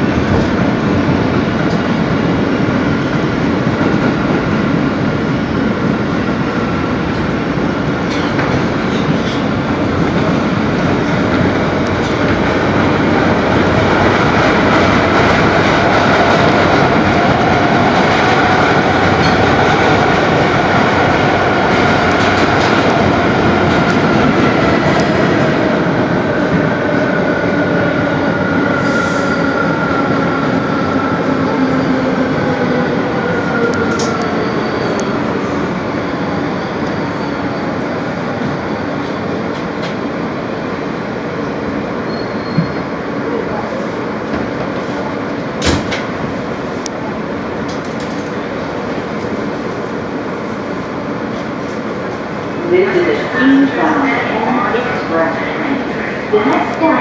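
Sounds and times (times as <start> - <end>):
subway wheels rumbling on track: 0.0 - 57.0.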